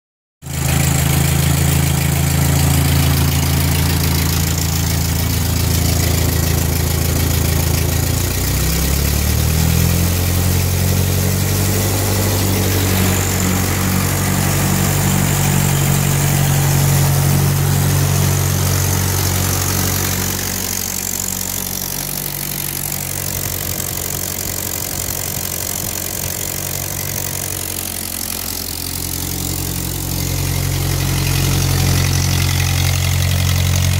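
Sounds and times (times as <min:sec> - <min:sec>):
tractor engine running: 0:00.4 - 0:33.9.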